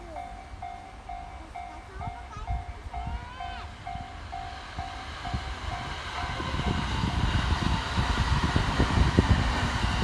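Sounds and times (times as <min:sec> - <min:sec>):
level-crossing warning bell: 0:00.0 - 0:08.4
train rumble: 0:00.0 - 0:10.0.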